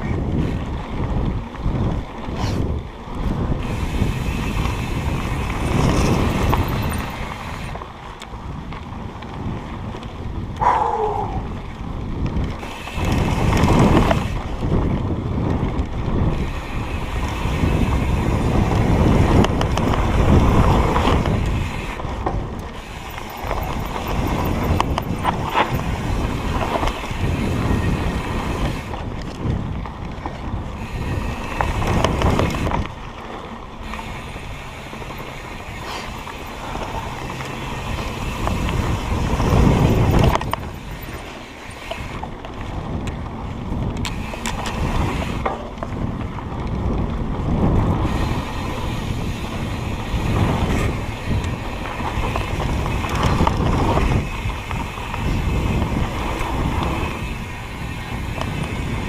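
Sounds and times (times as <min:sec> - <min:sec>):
rolling and rattling on rough ground: 0:00.0 - 0:59.0
wind buffeting microphone: 0:00.0 - 0:59.0.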